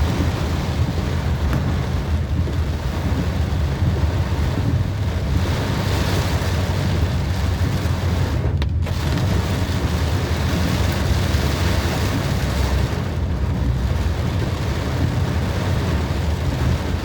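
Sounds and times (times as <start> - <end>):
heavy rain: 0.0 - 17.0
wind rumbling on microphone: 0.0 - 17.0.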